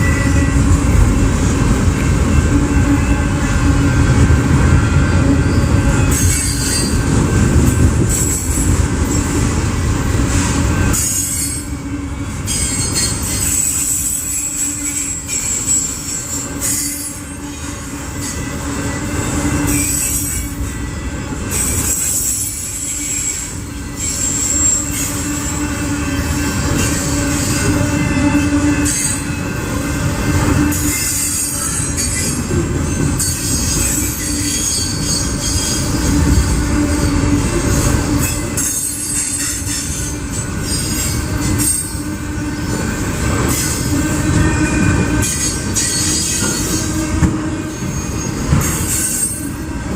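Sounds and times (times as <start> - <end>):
freight train rumbling past: 0.0 - 49.9
train wheels squealing on rails: 0.0 - 49.9.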